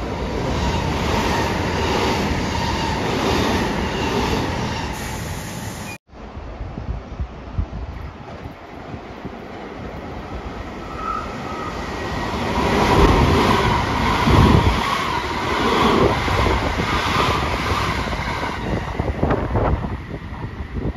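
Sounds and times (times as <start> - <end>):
electric train passing: 0.0 - 6.0, 8.3 - 20.9.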